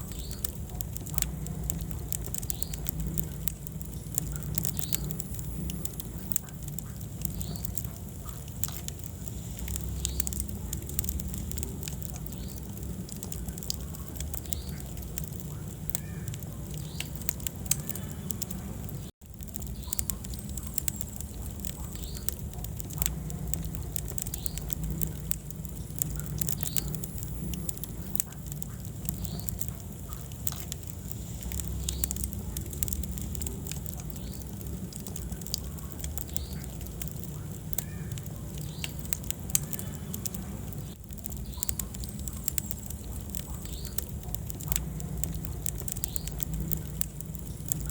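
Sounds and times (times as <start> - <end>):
fire crackling and popping: 0.0 - 47.9
fire flames rumbling: 0.0 - 47.9.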